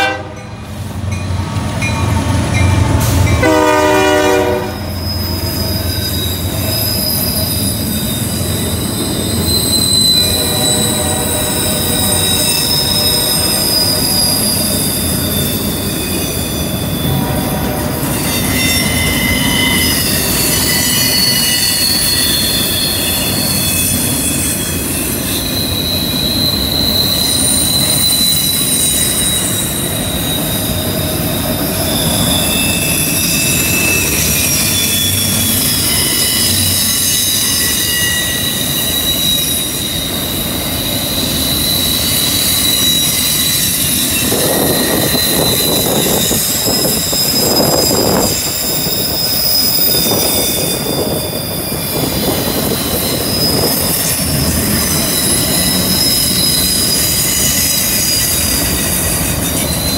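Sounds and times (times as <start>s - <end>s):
rumble and rattle of train cars: 0.0s - 59.9s
train wheels squealing: 0.0s - 59.9s.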